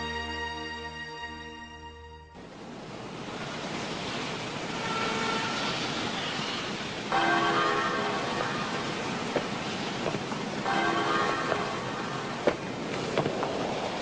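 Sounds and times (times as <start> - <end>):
sea surf rushing: 2.4 - 14.0.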